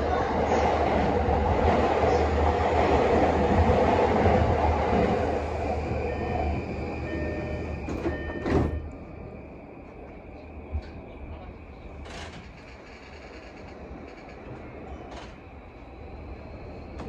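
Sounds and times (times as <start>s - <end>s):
train wheel and rolling noise: 0.0s - 17.0s.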